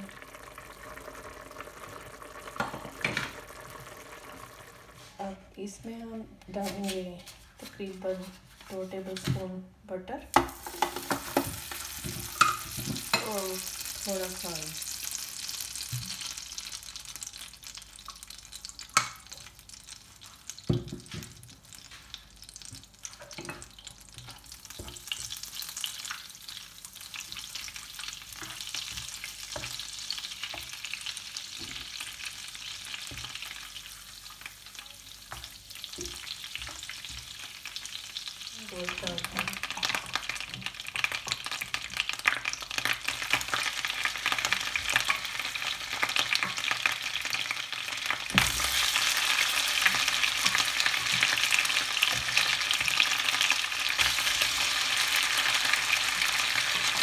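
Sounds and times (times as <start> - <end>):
beef crackling in hot fat: 0.0 - 5.0, 10.5 - 57.0
butter and oil sizzling in a pan: 0.0 - 5.2, 10.4 - 57.0.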